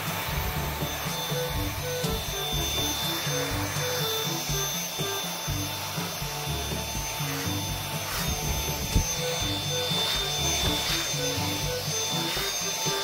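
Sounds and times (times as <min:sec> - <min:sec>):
background music: 0:00.0 - 0:13.0
vacuum cleaner motor whine: 0:00.0 - 0:13.0.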